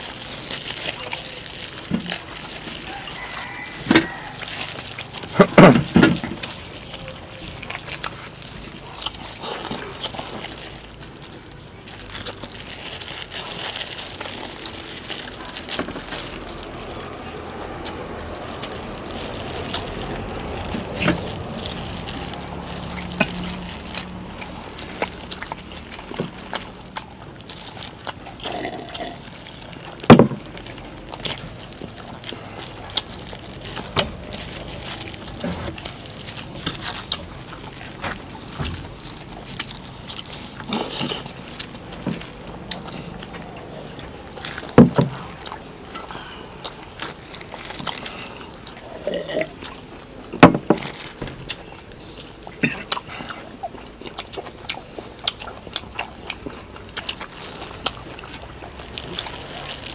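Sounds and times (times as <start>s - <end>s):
wet chewing sounds: 0.0s - 59.9s.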